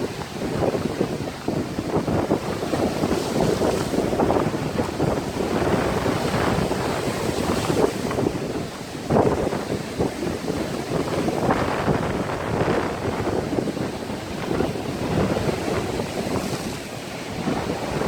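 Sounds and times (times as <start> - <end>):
lake waves breaking on shore: 0.0 - 18.0
wind buffeting microphone: 0.0 - 18.0.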